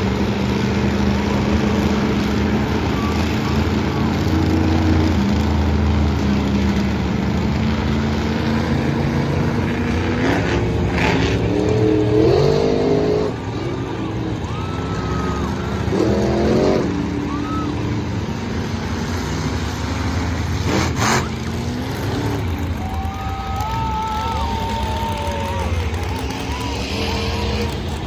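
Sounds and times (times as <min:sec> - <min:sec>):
monster truck engine revving: 0:00.0 - 0:28.0.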